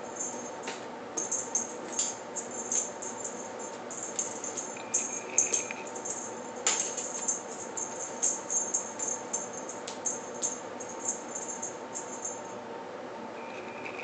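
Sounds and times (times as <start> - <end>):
cat toy rattling: 1.2 - 12.5.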